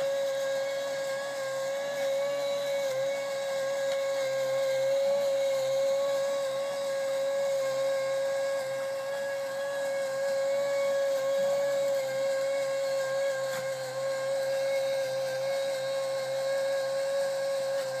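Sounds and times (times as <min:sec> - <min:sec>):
small motor whining: 0:00.0 - 0:18.0.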